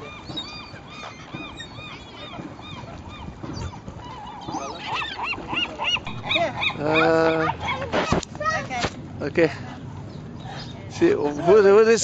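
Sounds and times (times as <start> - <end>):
flock of waterbirds calling: 0.0 - 8.2, 9.4 - 12.0.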